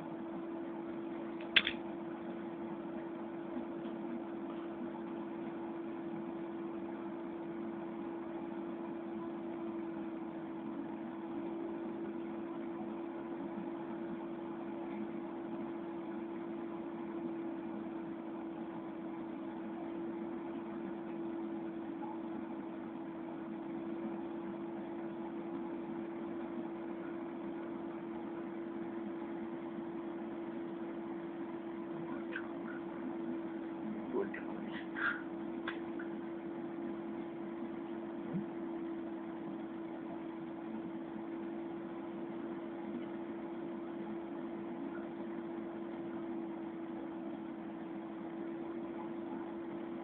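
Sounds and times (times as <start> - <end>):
steady mechanical hum: 0.0 - 50.0.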